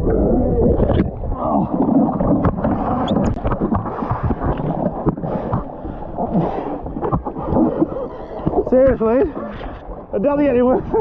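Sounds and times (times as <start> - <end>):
water slapping against hull: 0.8 - 11.0.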